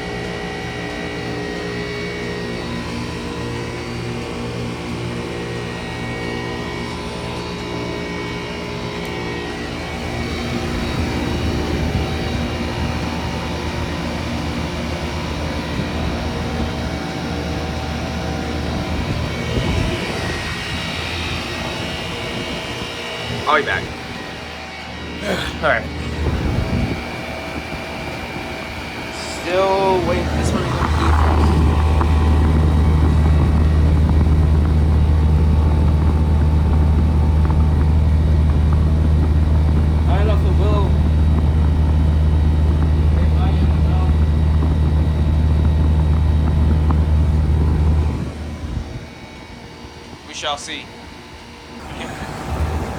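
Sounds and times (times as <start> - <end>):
heat pump units humming: 0.0 - 52.9.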